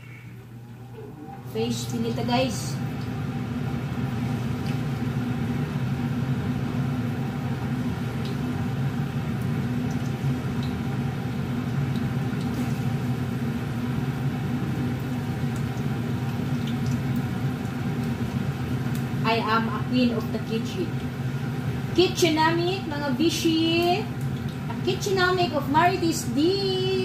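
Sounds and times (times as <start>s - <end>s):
range hood fan humming: 0.0s - 27.0s
fish frying in hot oil: 2.3s - 27.0s.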